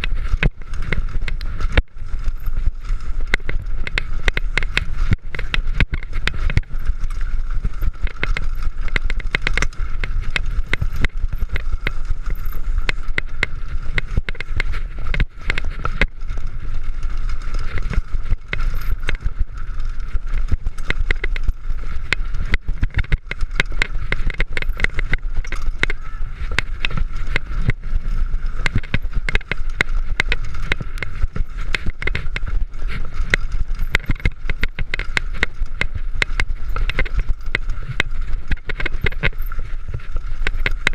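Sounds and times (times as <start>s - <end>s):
bike clattering and rattling: 0.0s - 40.9s.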